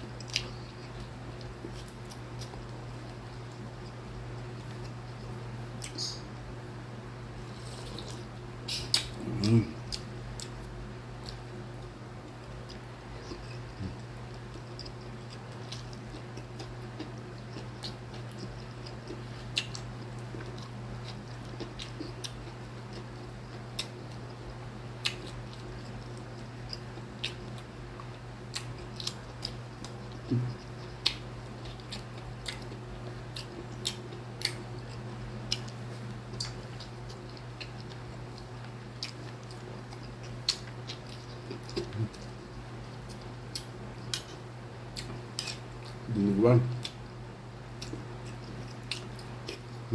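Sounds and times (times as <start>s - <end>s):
steady low hum: 0.0s - 49.9s
chewing and mouth smacks: 0.2s - 6.3s, 7.6s - 46.1s, 46.7s - 49.9s.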